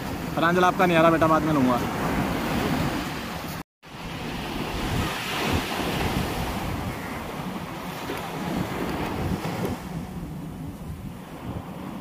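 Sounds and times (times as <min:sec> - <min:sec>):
rushing water: 0:00.0 - 0:10.2
wind buffeting microphone: 0:00.0 - 0:12.0.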